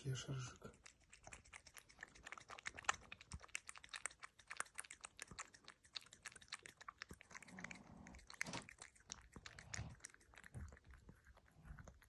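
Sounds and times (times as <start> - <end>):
cat lapping food: 0.0 - 12.0.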